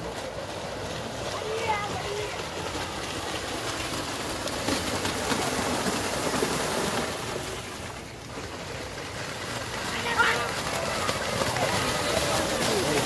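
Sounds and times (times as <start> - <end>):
splashing through muddy water: 0.0 - 13.0.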